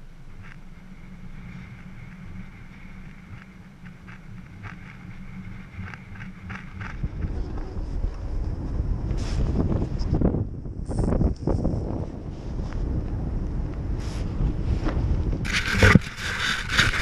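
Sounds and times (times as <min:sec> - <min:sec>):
low rumble: 0:00.0 - 0:17.0
wind buffeting microphone: 0:00.0 - 0:17.0.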